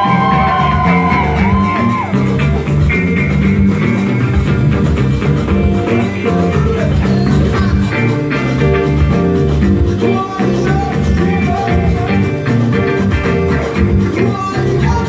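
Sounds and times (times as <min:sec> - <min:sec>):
electric guitars: 0:00.0 - 0:15.0
hand drums: 0:00.0 - 0:15.0.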